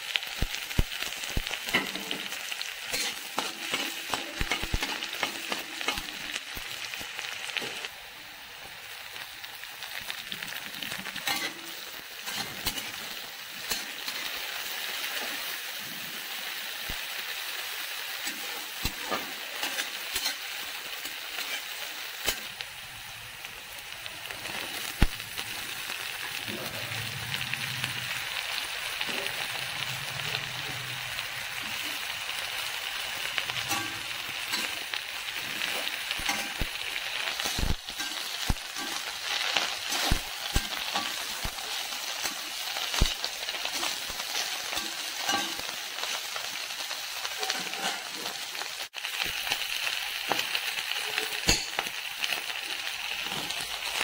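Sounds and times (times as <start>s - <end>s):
oil sizzling in a metal pan: 0.0s - 54.0s.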